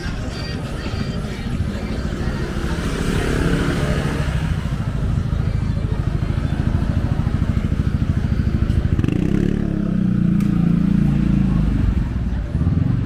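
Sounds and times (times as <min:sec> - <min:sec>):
motorcycle engine pulsing: 0:01.0 - 0:13.0.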